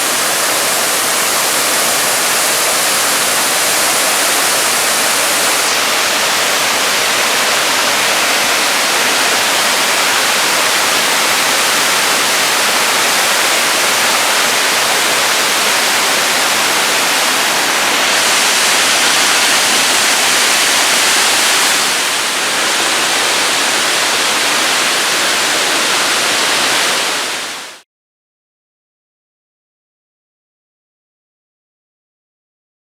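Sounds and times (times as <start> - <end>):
waterfall rushing: 0.0 - 27.8.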